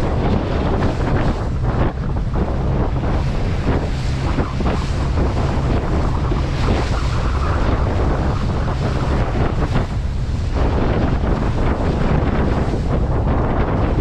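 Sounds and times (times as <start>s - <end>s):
choppy water: 0.0s - 14.0s
wind buffeting microphone: 0.0s - 14.0s.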